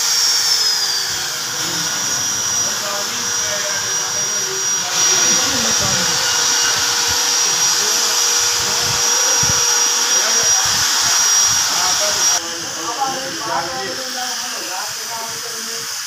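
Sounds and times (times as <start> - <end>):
power tool high whine: 0.0 - 16.0.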